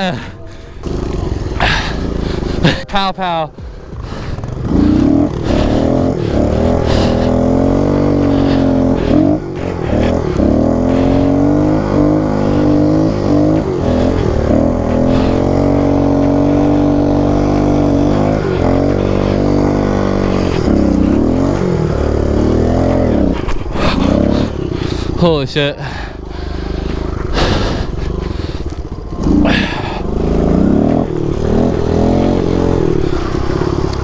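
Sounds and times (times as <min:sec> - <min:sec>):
small motorbike engine revving: 0:00.0 - 0:03.0, 0:03.6 - 0:34.0.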